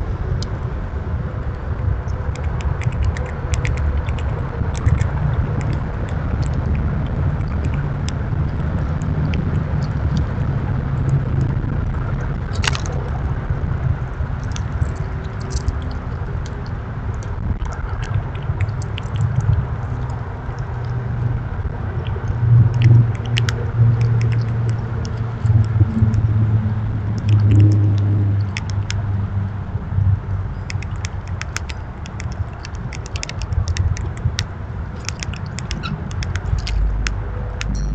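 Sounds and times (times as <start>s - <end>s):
low rumble: 0.0s - 37.9s
squirrel crunching food: 1.6s - 37.9s.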